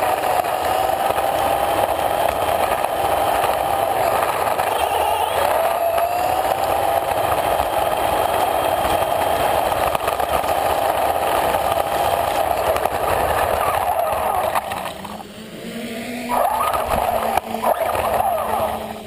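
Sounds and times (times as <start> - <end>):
toy car motor whine: 0.0 - 19.0
tyres on rough asphalt: 0.0 - 19.0.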